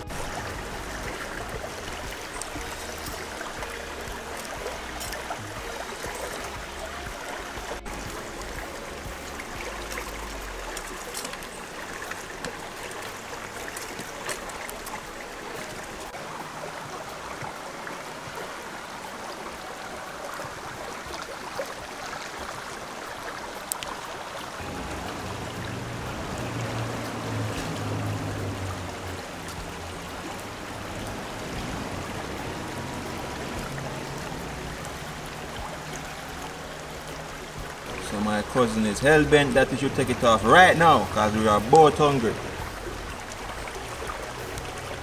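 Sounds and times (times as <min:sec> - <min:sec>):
stream running: 0:00.0 - 0:45.0.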